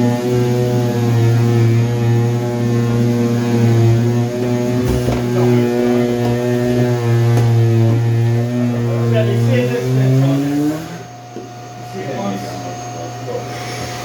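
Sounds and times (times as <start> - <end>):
steady electric hum: 1.8 - 14.0.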